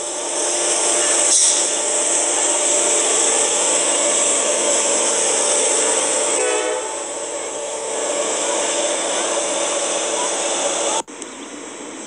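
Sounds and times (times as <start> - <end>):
diesel locomotives passing: 0.0 - 12.0.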